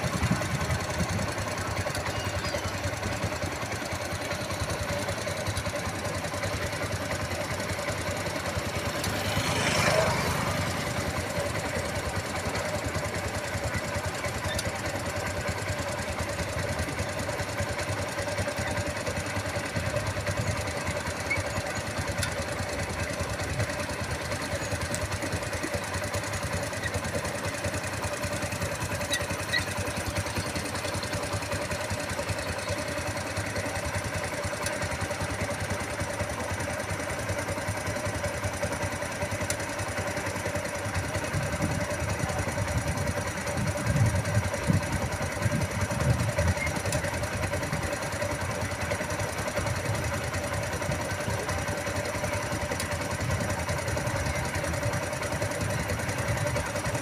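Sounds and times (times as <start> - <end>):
excavator engines droning: 0.0 - 57.0.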